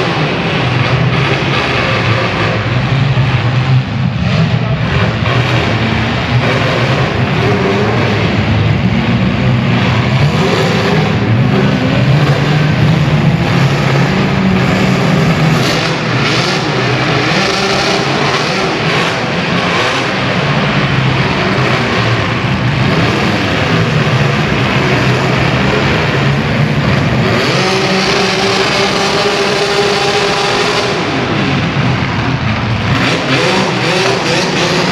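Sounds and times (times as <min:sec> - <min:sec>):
car engines revving: 0:00.0 - 0:34.9.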